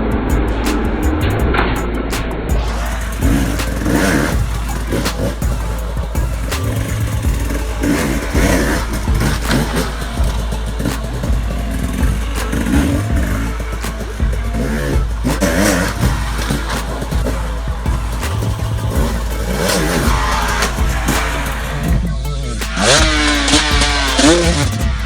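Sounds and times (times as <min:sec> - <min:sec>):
dirt bike engine revving: 0:02.5 - 0:25.0.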